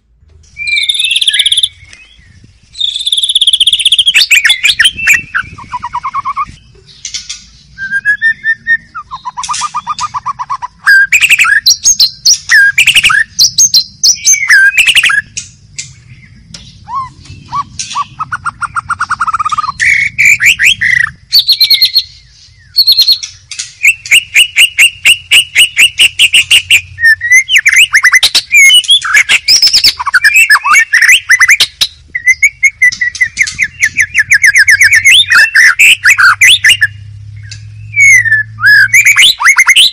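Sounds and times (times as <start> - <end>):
songbird singing varied song: 0.1 - 39.9.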